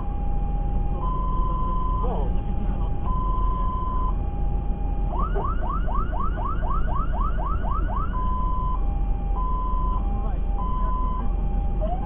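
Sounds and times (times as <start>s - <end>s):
fire engine siren: 0.0s - 12.0s
truck engine and road rumble: 0.0s - 12.0s.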